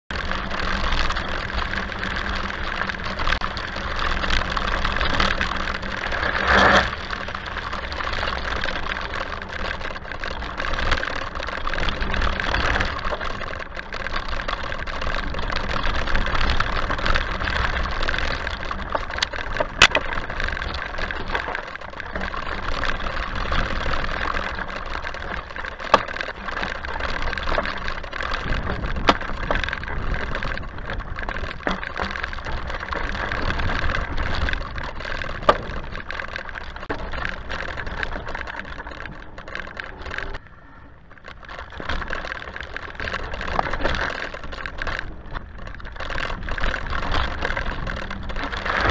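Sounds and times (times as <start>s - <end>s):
tyres and frame rumbling on dirt: 0.1s - 48.9s.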